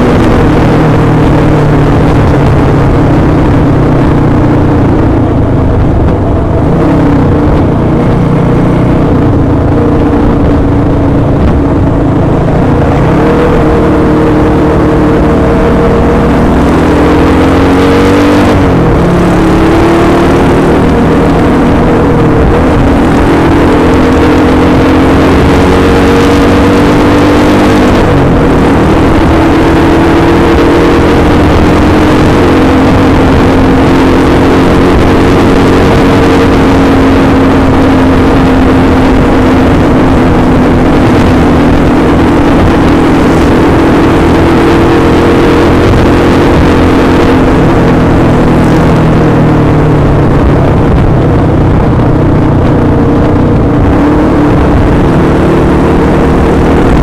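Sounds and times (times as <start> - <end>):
motorcycle engine at full throttle: 0.0 - 57.0
wind noise: 0.0 - 57.0.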